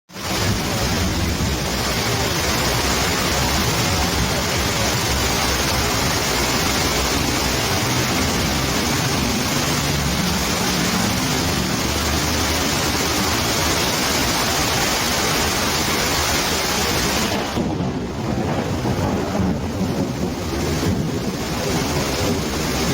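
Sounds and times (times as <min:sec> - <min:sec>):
heavy rain pouring: 0:00.1 - 0:22.9
rainwater streaming over tree trunk: 0:00.1 - 0:22.9.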